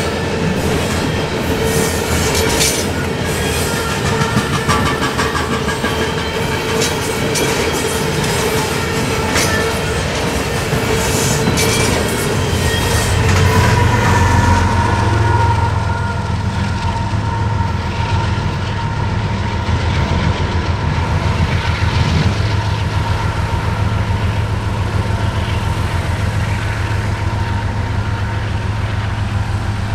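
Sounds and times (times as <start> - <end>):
freight train wheels clacking: 0.0 - 29.9.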